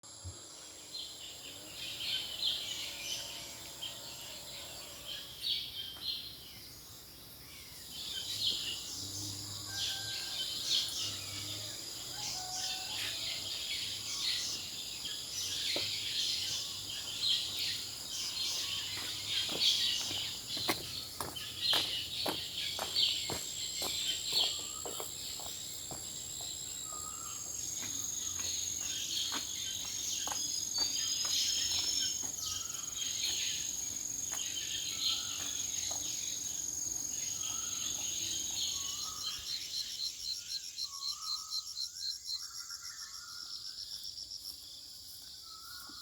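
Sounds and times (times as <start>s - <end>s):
insect drone: 0.1s - 5.8s, 6.4s - 46.0s
birds chirping: 0.5s - 41.6s.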